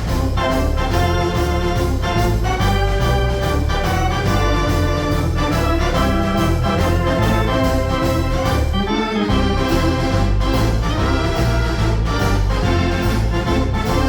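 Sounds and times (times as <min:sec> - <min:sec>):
dance organ playing a tune: 0:00.0 - 0:14.0
repeating bass: 0:00.0 - 0:14.0.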